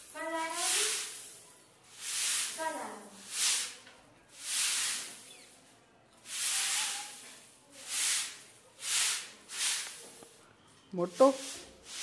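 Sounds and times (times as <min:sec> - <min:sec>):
broom sweeping concrete floor: 0:00.0 - 0:12.0.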